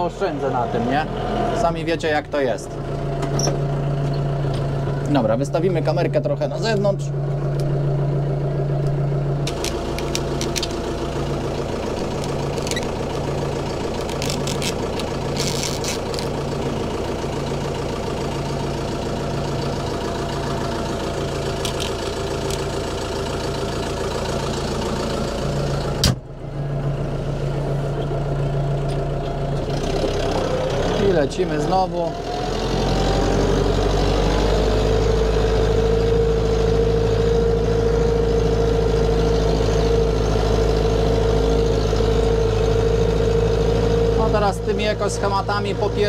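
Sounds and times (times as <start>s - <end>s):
tractor diesel engine pulsing: 0.0s - 46.0s.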